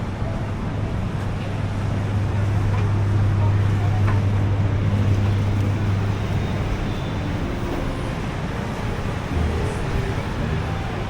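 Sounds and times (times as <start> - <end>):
traffic noise: 0.0 - 11.0
low engine hum: 0.1 - 11.0.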